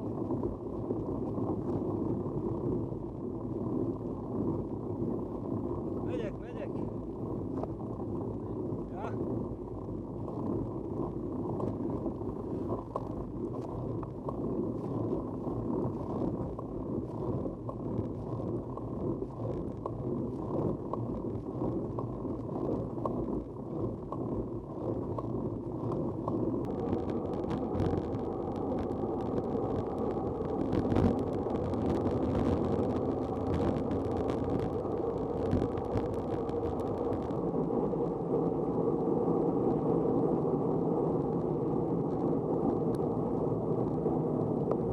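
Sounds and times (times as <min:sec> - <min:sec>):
muffled low vehicle rumble: 0:00.0 - 0:44.9.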